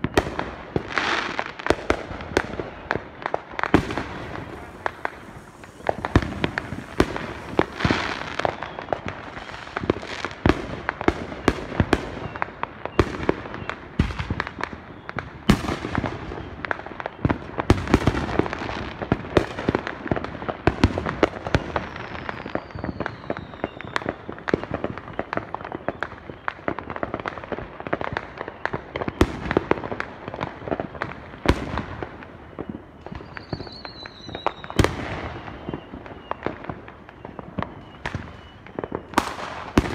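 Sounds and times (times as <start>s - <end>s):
falling firework whistle: 0.0s - 10.8s, 11.8s - 18.5s, 20.9s - 27.2s, 27.9s - 39.9s
fireworks bangs and crackling: 0.0s - 39.9s.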